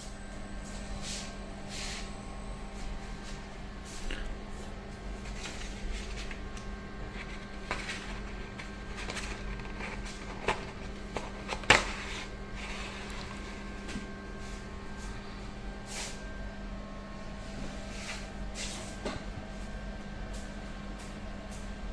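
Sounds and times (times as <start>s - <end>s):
machine hum with low rumble: 0.0s - 21.9s.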